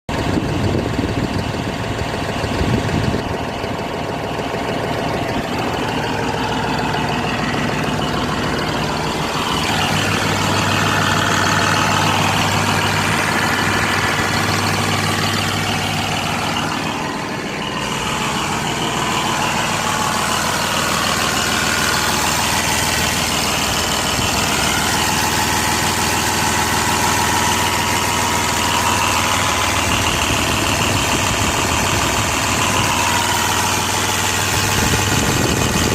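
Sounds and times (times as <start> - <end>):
diesel tractor engine misfiring: 0.1 - 35.9.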